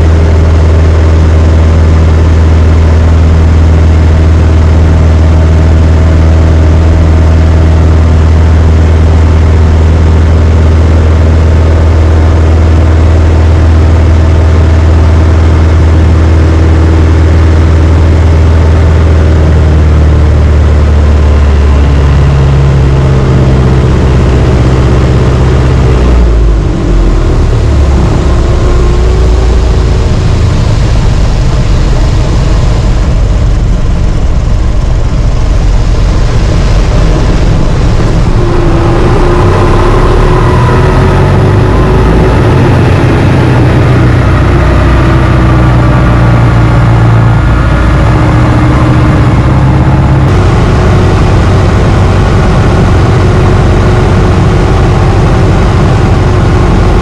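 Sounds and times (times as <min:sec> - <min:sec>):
propeller engine running: 0:00.0 - 0:57.0
rough windy sound: 0:00.0 - 0:57.0.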